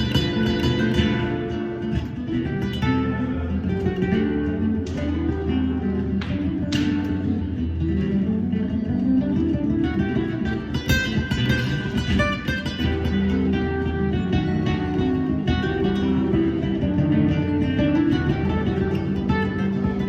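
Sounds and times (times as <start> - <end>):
acoustic guitar music: 0.0 - 20.0.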